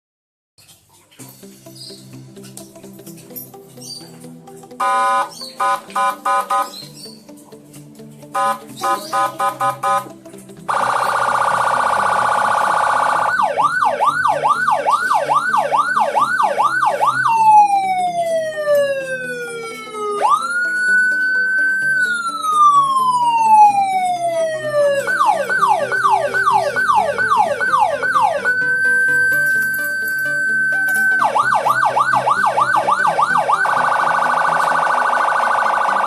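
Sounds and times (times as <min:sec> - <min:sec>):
electronic police siren: 0:04.8 - 0:07.0, 0:08.4 - 0:36.0.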